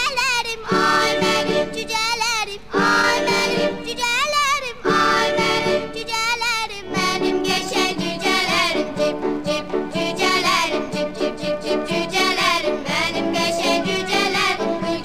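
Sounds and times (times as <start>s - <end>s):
cheerful children's song: 0.0s - 15.0s.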